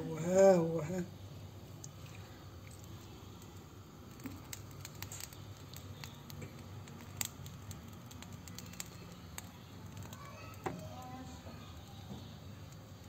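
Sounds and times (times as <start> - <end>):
steady low hum: 0.0 - 13.0
chicken down crackling in flame: 1.7 - 13.0.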